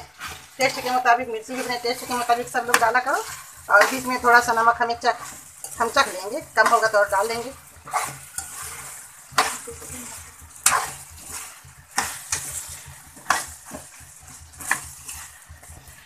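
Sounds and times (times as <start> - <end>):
food sizzling: 0.0 - 16.0
spatula scraping metal pan: 0.0 - 16.0.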